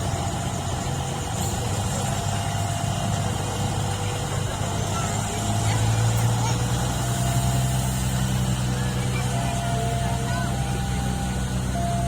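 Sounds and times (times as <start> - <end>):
locomotive engine idling: 0.0 - 12.0.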